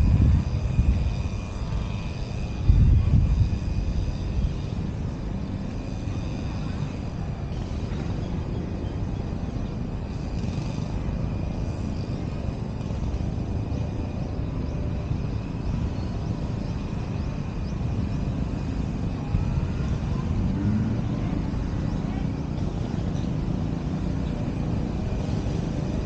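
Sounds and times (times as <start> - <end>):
distant city traffic rumble: 0.0 - 26.0.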